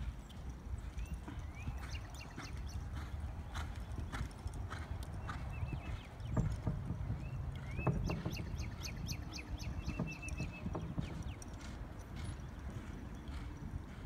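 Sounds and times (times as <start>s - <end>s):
horse hooves striking ground: 0.0s - 14.0s.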